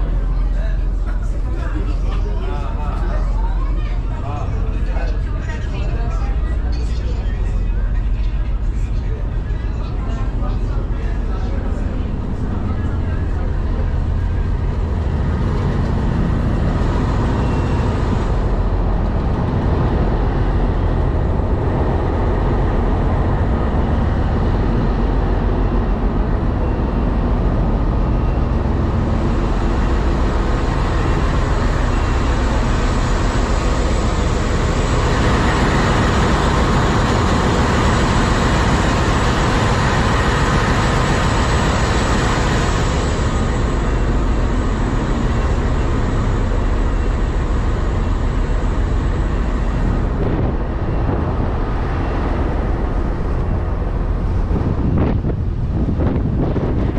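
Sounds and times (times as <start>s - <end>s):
low engine rumble: 0.0s - 56.9s.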